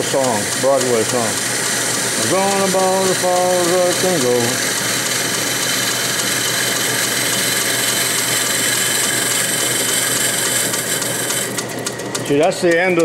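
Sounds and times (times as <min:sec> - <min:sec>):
lathe machining: 0:00.0 - 0:13.0
high hiss of cutting tool: 0:01.0 - 0:11.5.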